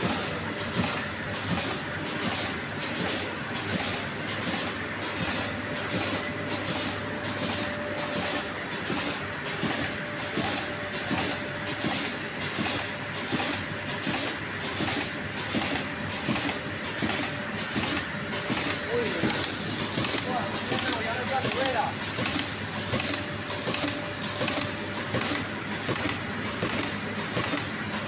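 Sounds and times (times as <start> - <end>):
machine mechanical clatter: 0.0 - 28.0
rhythmic machine hiss: 0.1 - 28.0.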